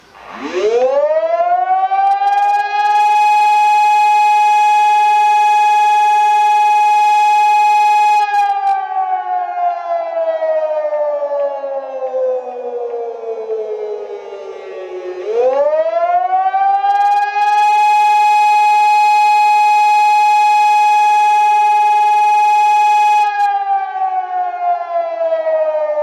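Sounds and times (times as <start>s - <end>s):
civil defense siren winding: 0.0s - 26.0s.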